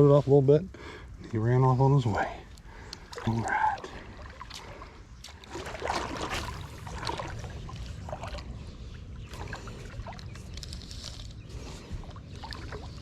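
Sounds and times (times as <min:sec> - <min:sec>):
creek water sloshing and splashing: 0:02.6 - 0:13.0.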